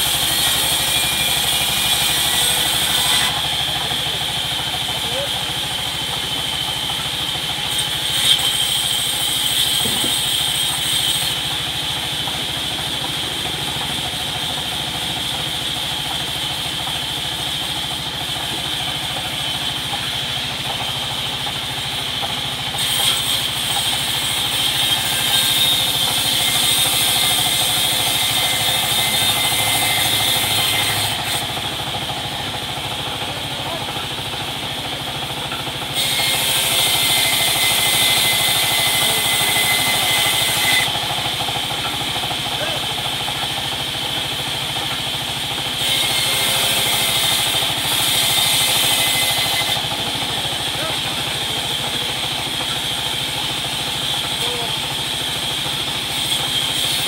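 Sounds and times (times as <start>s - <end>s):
band saw whining: 0.0s - 57.0s.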